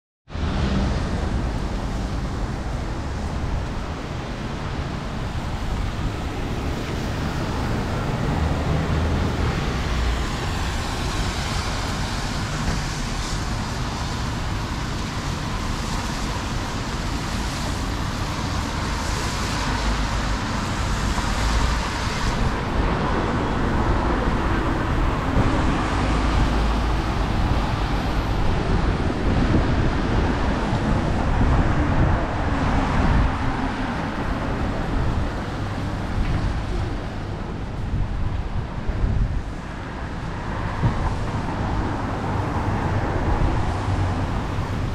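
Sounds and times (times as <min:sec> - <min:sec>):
tyres hissing on wet road: 0:00.4 - 0:44.9.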